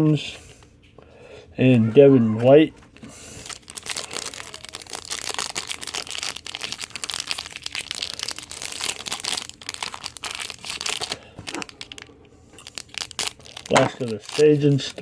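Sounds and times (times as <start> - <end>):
card pack wrapper crinkling and tearing: 2.9 - 15.0.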